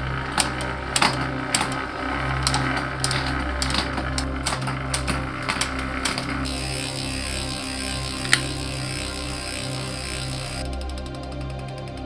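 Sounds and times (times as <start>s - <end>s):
bike chain ticking: 0.0s - 12.0s
low hum: 0.0s - 12.0s
bike shifter clicking: 0.3s - 10.6s.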